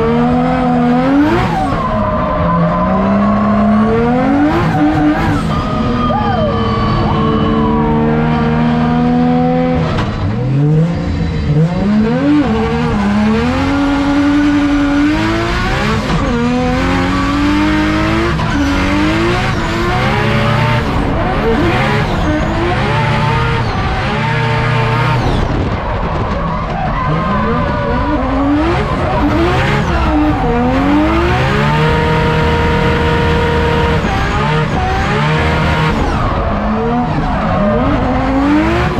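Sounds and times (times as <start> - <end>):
car engine revving hard: 0.0 - 25.8, 27.0 - 38.9
tyres skidding and squealing: 0.0 - 38.9.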